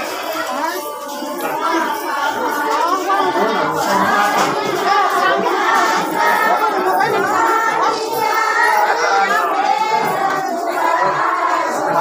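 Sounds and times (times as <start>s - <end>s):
group chatter: 0.0s - 12.0s
group singing: 0.0s - 12.0s.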